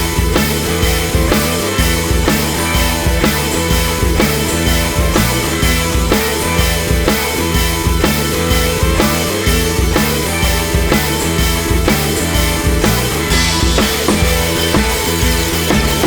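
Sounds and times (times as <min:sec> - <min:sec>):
rock music with drums and bass: 0:00.0 - 0:16.0.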